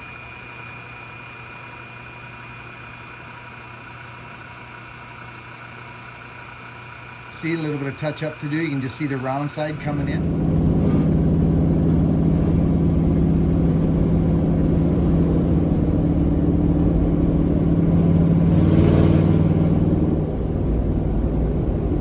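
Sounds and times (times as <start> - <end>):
truck engine droning: 3.8 - 22.0.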